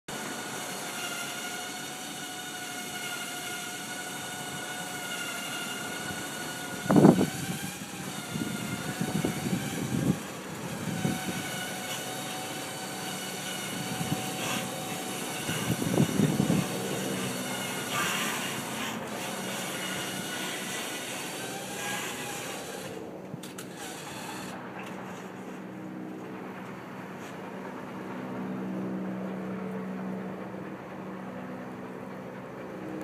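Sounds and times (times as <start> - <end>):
steady mechanical whine: 0.1 - 33.0.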